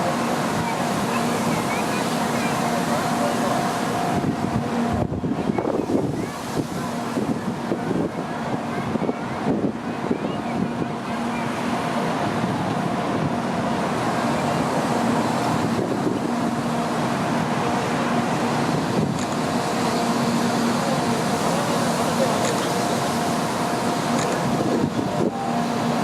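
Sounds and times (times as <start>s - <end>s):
wind buffeting microphone: 0.0s - 21.4s, 22.2s - 26.0s
train rumbling: 0.0s - 26.0s
two-tone hum: 0.0s - 26.0s.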